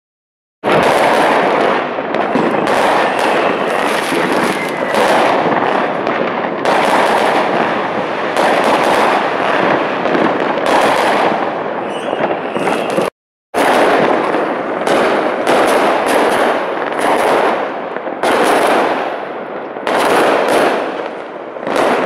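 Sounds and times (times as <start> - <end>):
fireworks crackling and banging: 0.6 - 22.0.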